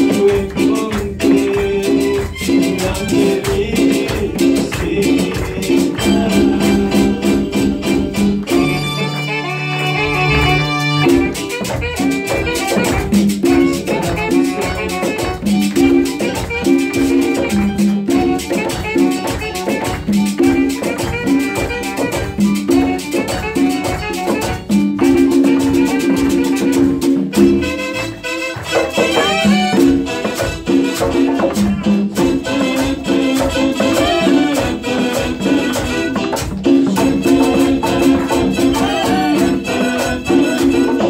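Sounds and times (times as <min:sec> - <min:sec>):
hand percussion and shaker: 0:00.0 - 0:41.0
latin band playing: 0:00.0 - 0:41.0
saxophone and trumpet: 0:00.0 - 0:41.0.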